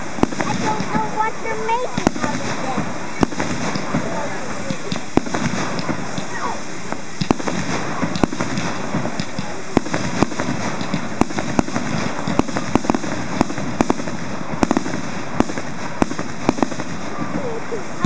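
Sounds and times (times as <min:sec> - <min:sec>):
firework bangs and pops: 0:00.0 - 0:18.0
steady background noise: 0:00.0 - 0:18.0.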